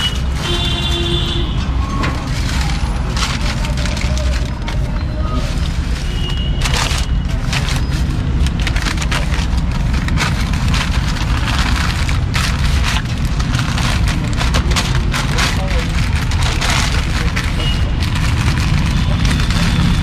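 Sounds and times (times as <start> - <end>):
newspaper crinkling and rustling: 2.0 - 20.0
foil crackling: 2.2 - 20.0.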